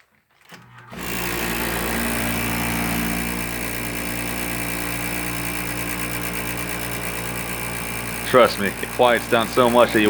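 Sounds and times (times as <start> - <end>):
window air conditioner humming: 0.9 - 10.0.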